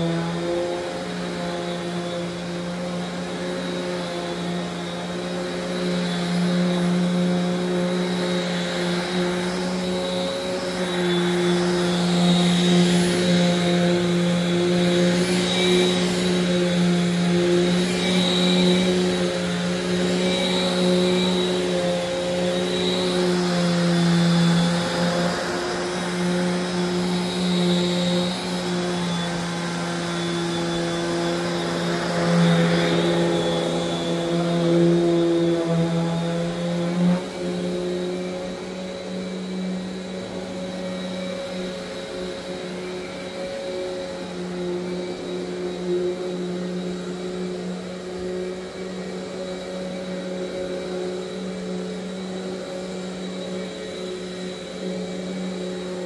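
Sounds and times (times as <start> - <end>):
vacuum cleaner running on carpet: 0.0 - 56.0.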